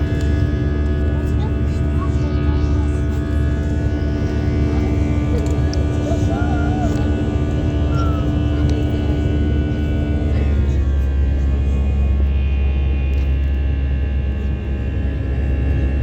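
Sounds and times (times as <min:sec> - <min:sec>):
airplane engines droning: 0:00.0 - 0:16.0
faint voices: 0:00.0 - 0:16.0.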